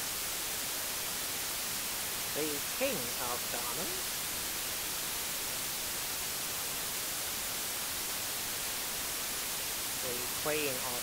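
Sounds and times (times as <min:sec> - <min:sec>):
white noise hiss: 0:00.0 - 0:11.0.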